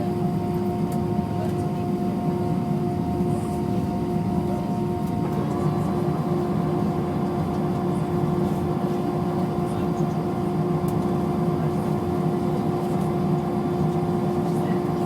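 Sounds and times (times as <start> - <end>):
airplane cabin rumble: 2.3 - 15.0.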